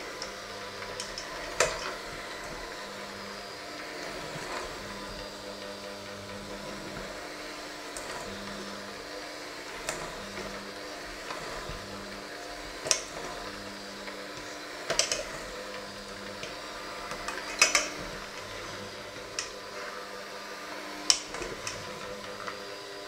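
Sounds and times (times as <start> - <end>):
electric hand mixer running: 0.0 - 23.0.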